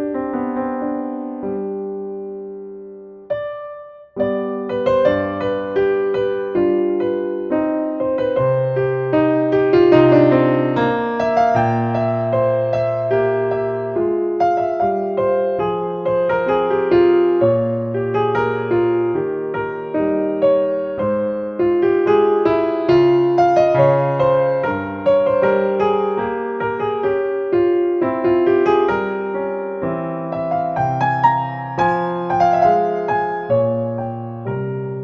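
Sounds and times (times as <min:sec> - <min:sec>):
solo piano music: 0:00.0 - 0:35.0.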